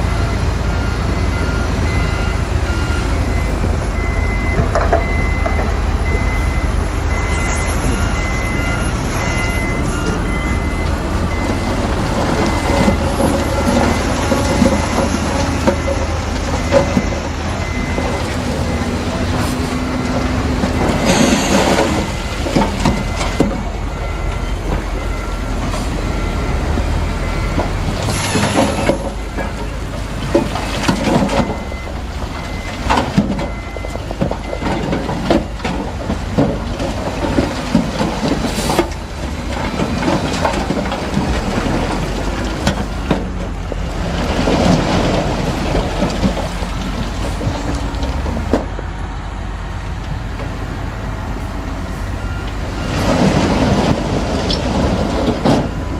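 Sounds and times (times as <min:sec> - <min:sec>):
bulldozer diesel engine: 0:00.0 - 0:55.9
crawler tracks clanking and squealing: 0:01.8 - 0:49.0, 0:49.9 - 0:55.9.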